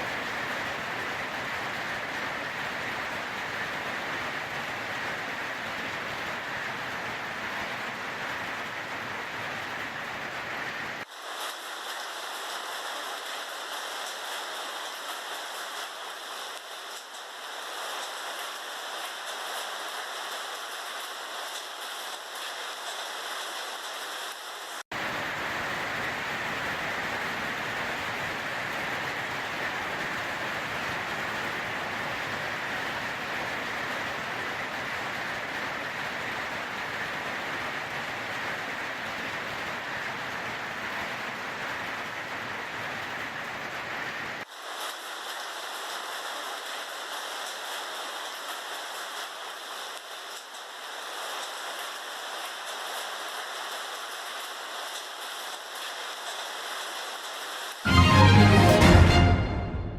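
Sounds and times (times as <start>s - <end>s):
heavy rain and hail: 0.0s - 59.8s.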